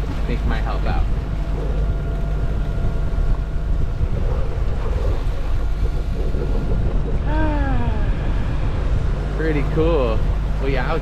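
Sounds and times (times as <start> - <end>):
steady low rumble: 0.0 - 11.0
water rushing along hull: 0.0 - 11.0
wind buffeting microphone: 0.0 - 11.0.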